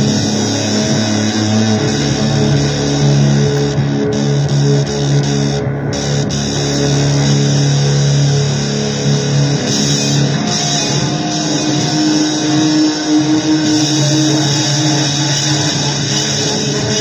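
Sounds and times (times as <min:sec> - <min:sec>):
distorted electric guitar rock: 0:00.0 - 0:17.0.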